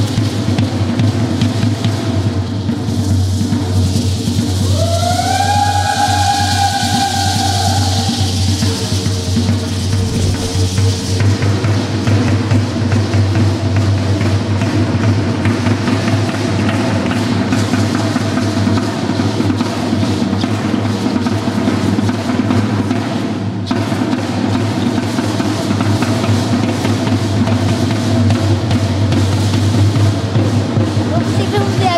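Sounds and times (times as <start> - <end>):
drum playing steadily: 0.0 - 31.9.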